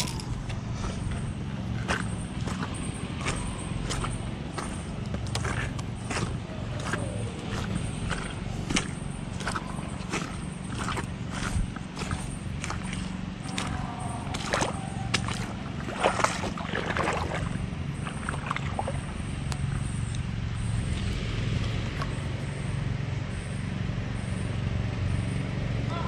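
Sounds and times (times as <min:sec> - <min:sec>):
footsteps squelching in wet mud: 0:00.0 - 0:22.8
steady low hum: 0:00.0 - 0:26.0.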